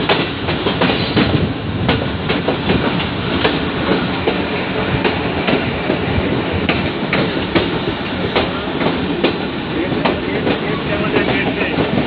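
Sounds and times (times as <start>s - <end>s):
train coach rumble: 0.0s - 12.0s
wheels clacking over rail joints: 0.0s - 12.0s.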